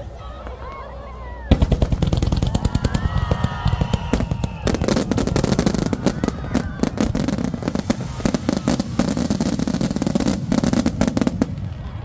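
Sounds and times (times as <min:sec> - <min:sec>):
fireworks bangs and crackles: 0:00.4 - 0:12.0.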